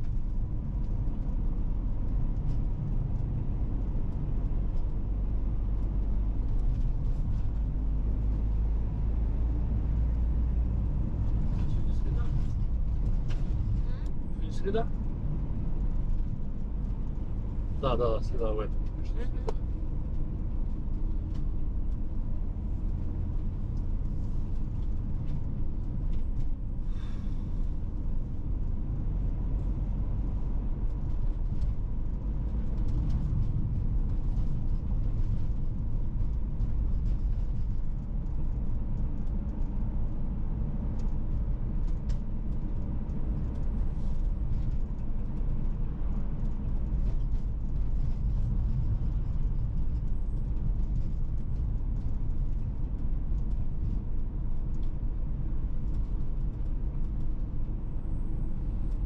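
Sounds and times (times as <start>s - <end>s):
car tyre and road noise: 0.0s - 59.0s.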